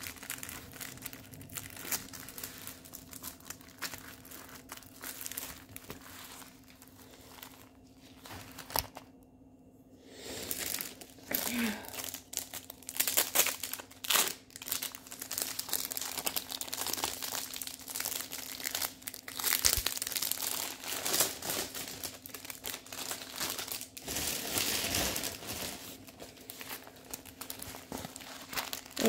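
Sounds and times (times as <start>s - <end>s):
plastic packaging crinkling: 0.0s - 9.2s, 10.3s - 29.0s.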